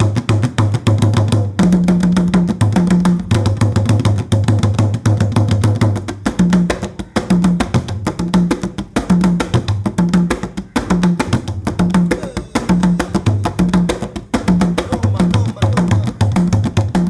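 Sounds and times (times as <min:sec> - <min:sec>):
fast drum strokes: 0:00.0 - 0:17.0.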